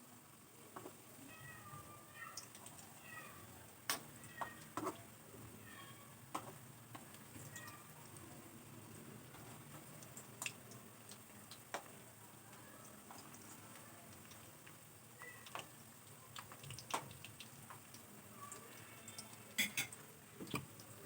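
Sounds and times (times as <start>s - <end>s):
snacks frying in oil: 0.0s - 21.0s.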